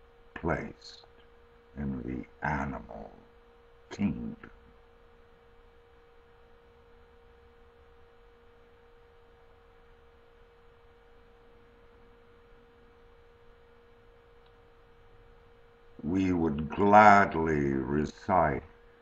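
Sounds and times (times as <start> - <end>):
steady single-pitched hum: 0.0 - 19.0.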